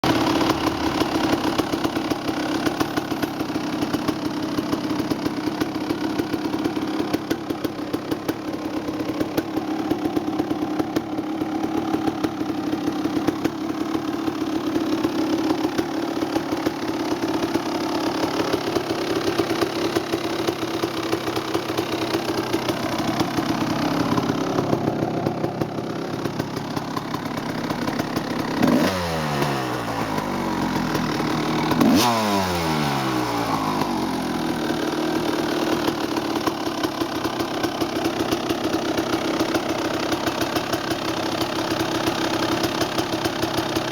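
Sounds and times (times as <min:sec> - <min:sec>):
two-stroke engine idling: 0:00.0 - 0:43.9.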